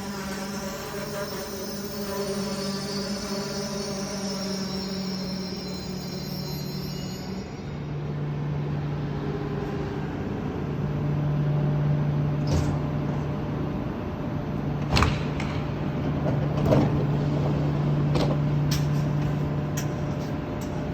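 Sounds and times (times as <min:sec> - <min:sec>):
train low hum: 0:00.0 - 0:20.9.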